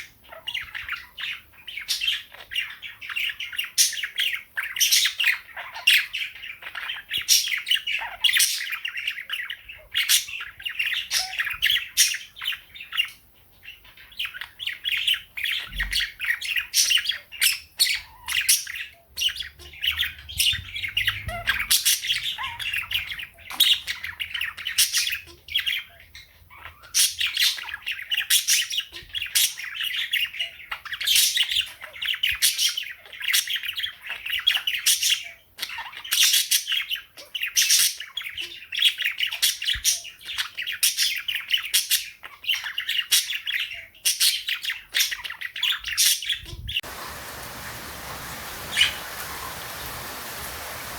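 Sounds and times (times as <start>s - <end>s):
birds chirping and squawking: 0.0s - 50.9s.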